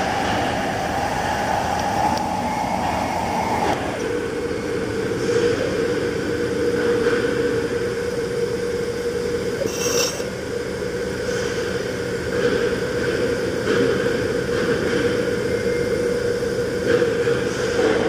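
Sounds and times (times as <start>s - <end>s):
factory machinery whining: 0.0s - 18.0s.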